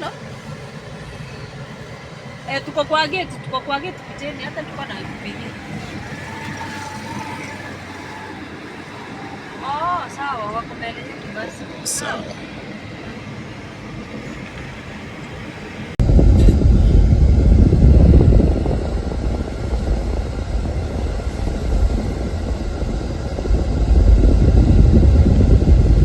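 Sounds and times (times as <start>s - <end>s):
road and wind noise: 0.0s - 26.0s
vehicle engine rumble: 0.0s - 26.0s.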